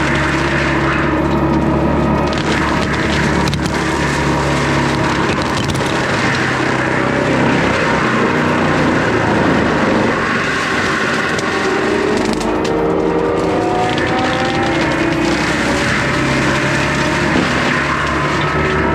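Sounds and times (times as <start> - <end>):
diesel engine under load: 0.0 - 18.9
mulcher shredding brush: 0.0 - 18.9.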